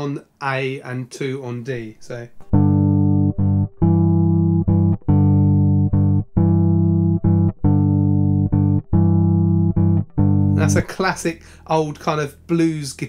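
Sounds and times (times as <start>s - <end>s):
bass guitar blues riff: 2.1s - 13.0s.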